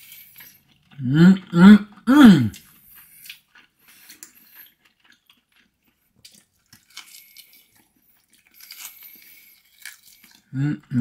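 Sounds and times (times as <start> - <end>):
man chewing food: 0.0 - 11.0.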